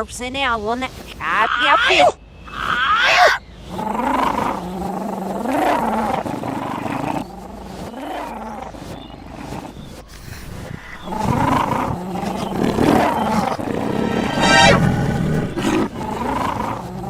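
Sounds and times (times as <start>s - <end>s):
cartoon big cat roars: 2.7s - 17.0s.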